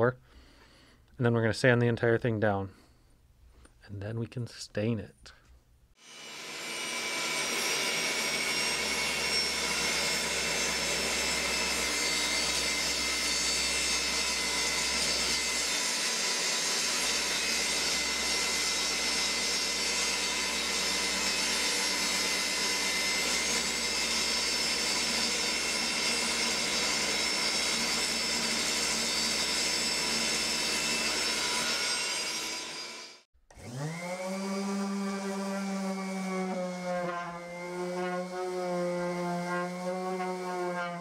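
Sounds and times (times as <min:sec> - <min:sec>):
saw blade cutting wood: 0:06.0 - 0:41.0
table saw motor running: 0:06.0 - 0:41.0.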